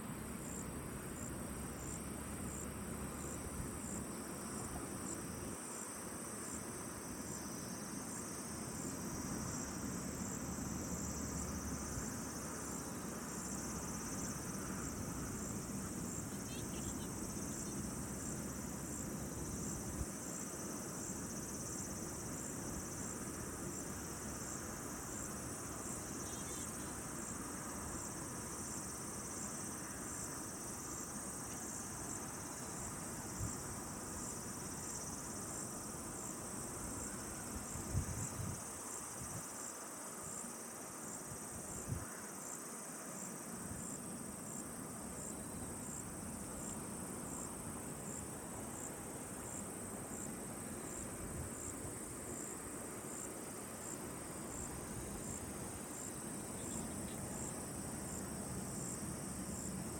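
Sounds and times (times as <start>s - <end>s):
low outdoor ambience: 0.0s - 59.9s.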